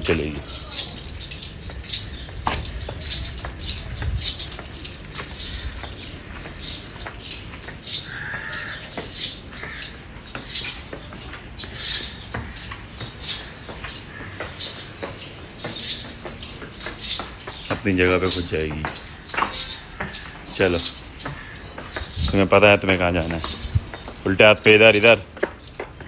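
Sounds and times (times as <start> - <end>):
cow bells jingling: 0.0 - 26.0.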